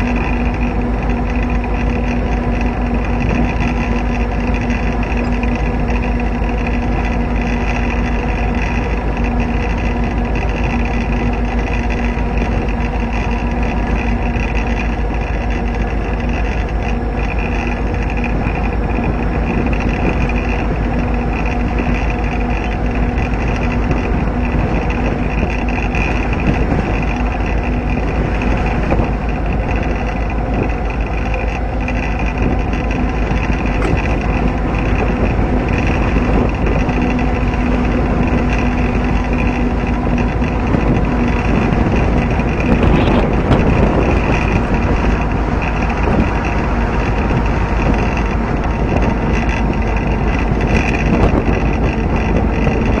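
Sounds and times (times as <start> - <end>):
continuous rushing noise: 0.0 - 53.0
diesel locomotive engine drone: 0.0 - 53.0
steady hum: 0.0 - 53.0.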